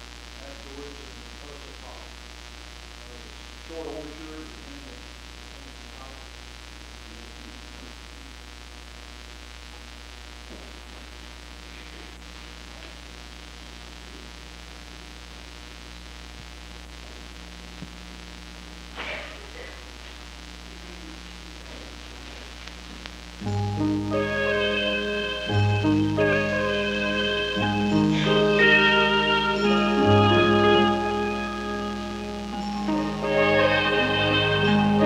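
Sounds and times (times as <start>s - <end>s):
electrical hum and tape hiss: 0.0s - 35.0s.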